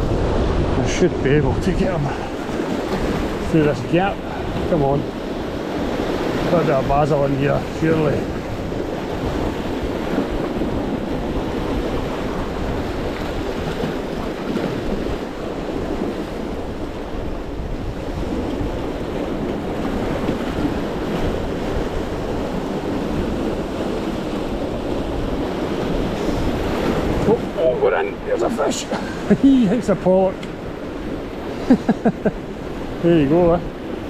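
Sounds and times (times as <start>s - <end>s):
sea waves washing against rocks: 0.0s - 34.0s
wind rumbling on microphone: 0.0s - 34.0s.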